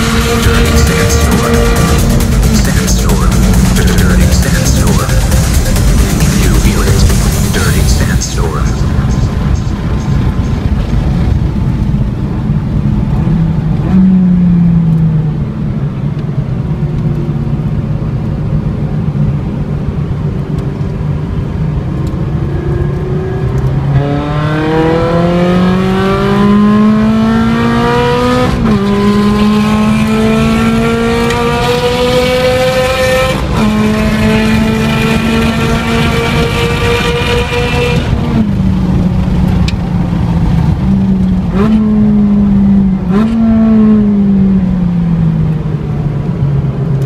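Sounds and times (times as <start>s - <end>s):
car engine accelerating: 0.0s - 47.0s
road and wind noise: 0.0s - 47.0s.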